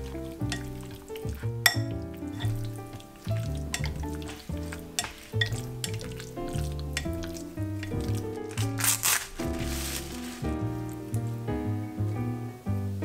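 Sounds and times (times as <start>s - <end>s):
chopsticks stirring wet meat: 0.0s - 11.4s
background music with bass: 0.0s - 13.0s.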